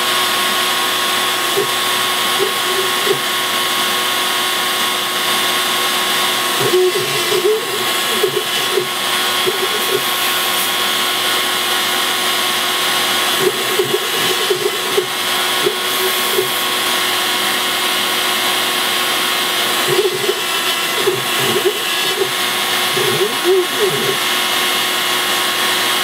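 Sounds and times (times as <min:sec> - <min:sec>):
router spindle whining: 0:00.0 - 0:26.0.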